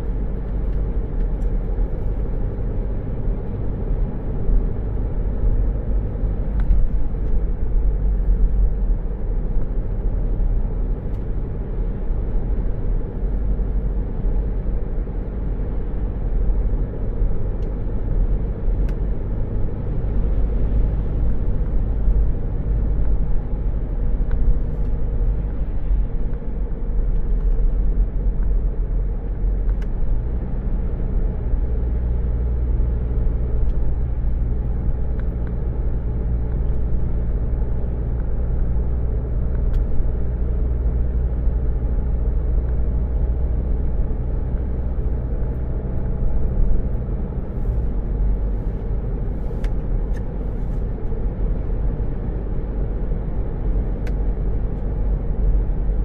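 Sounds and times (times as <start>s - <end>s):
car engine hum: 0.0s - 56.0s
road rumble inside car: 0.0s - 56.0s.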